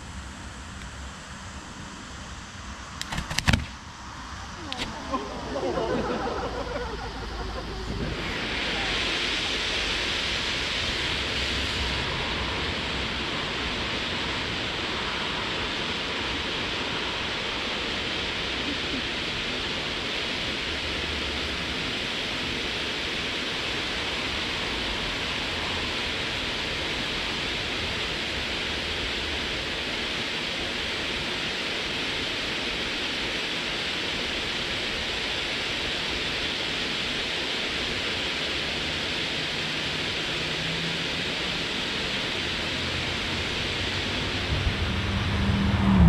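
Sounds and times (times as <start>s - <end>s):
firework hissing: 0.0s - 46.0s.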